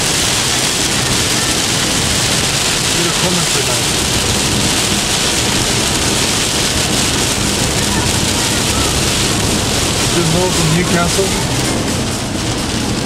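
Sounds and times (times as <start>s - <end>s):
heavy rain on windscreen: 0.0s - 13.0s
road noise: 0.0s - 13.0s.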